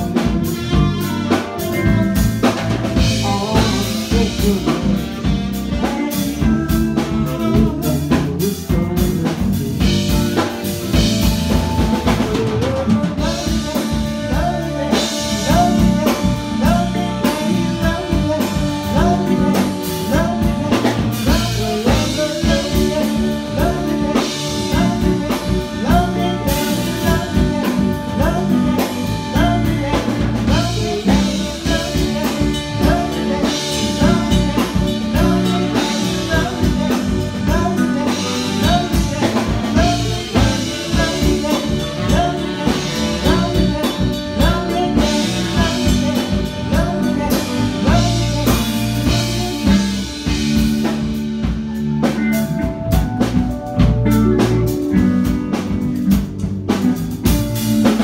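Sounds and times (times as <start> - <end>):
drum kit steady beat: 0.0 - 58.0
live band playing: 0.0 - 58.0.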